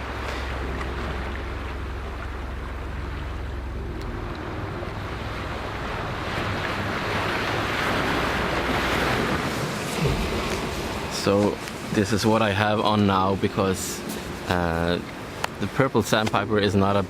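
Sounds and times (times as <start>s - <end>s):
sea waves washing over rocks: 0.0s - 17.0s
wind rumbling on microphone: 0.0s - 17.0s.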